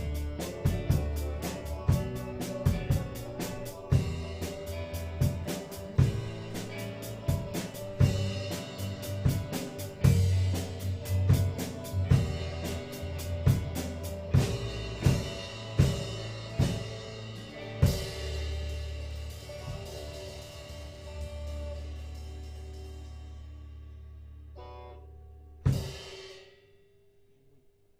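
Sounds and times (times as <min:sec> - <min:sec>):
band playing: 0:00.0 - 0:23.6
held low chord: 0:00.0 - 0:25.5.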